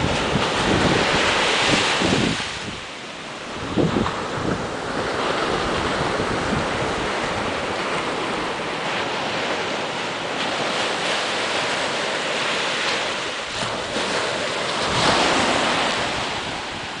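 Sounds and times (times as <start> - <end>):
ocean surf breaking on sand: 0.0 - 17.0.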